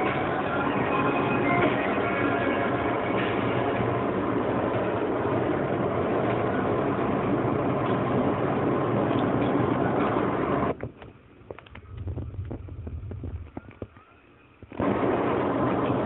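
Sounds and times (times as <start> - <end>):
car engine and road noise inside cabin: 0.0 - 16.0.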